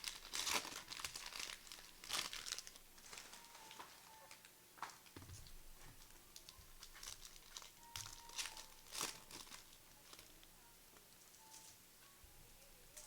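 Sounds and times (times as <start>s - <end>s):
foil wrappers crinkling and tearing: 0.0s - 10.5s.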